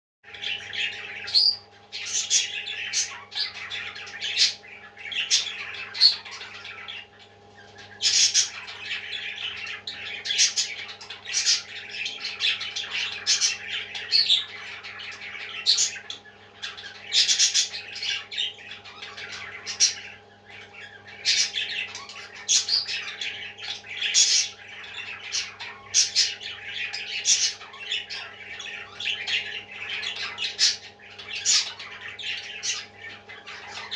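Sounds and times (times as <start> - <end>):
parrot chicks squawking: 0.3 - 33.9.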